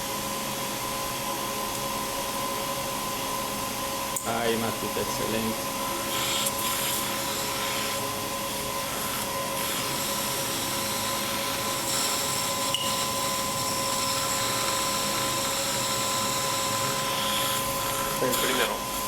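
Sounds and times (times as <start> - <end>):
machine hissing and humming: 0.0 - 19.0.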